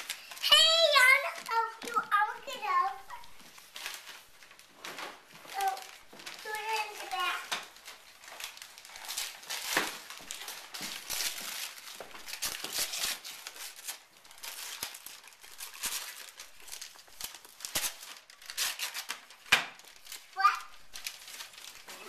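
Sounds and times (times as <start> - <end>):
wrapping paper tearing and crumpling: 0.0 - 22.0.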